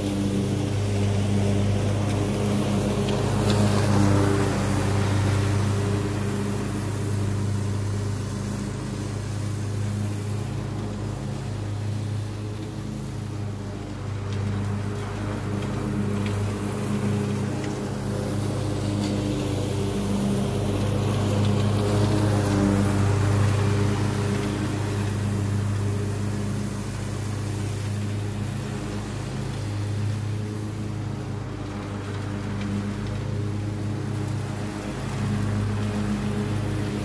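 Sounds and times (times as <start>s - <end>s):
lawn mower engine running: 0.0s - 37.0s.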